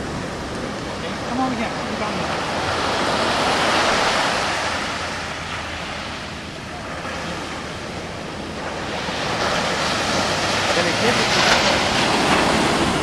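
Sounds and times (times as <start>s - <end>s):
ocean surf washing up beach: 0.0s - 13.0s.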